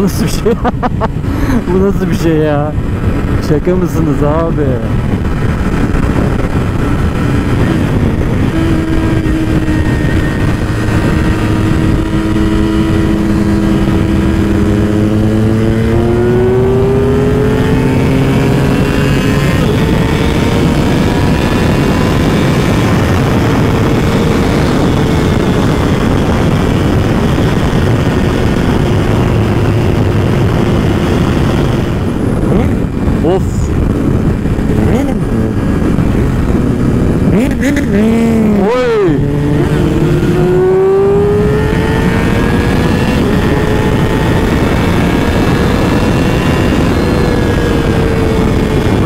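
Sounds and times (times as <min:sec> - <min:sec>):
motorcycle engine at speed: 0:00.0 - 0:49.0
wind rush: 0:00.0 - 0:49.0.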